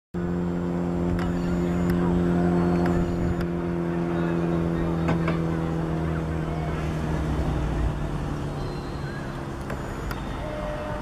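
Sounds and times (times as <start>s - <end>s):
motor engine humming: 0.2s - 11.0s
rumbling outdoor noise: 0.2s - 11.0s.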